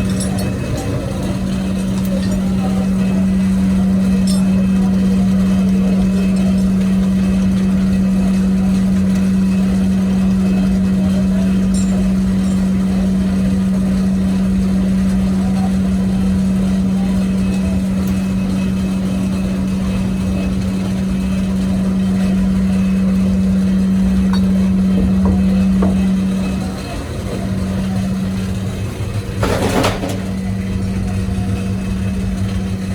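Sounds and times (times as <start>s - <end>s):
machine humming: 0.0s - 32.9s.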